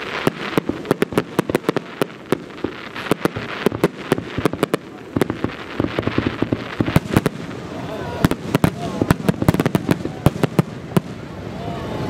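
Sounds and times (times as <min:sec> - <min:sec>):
fireworks bangs and pops: 0:00.0 - 0:11.3
steady hiss: 0:00.0 - 0:12.0.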